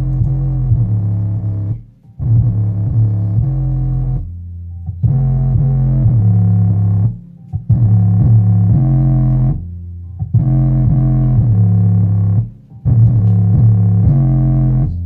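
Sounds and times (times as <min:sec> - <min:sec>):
deep bass music through subwoofer: 0:00.0 - 0:15.0.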